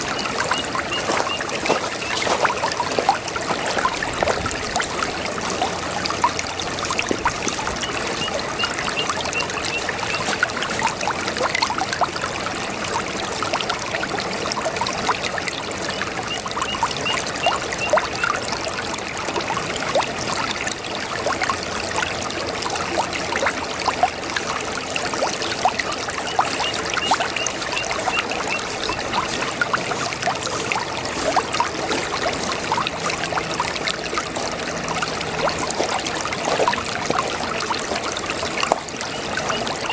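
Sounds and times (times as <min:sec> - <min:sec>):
brook water trickling over stones: 0:00.0 - 0:39.9.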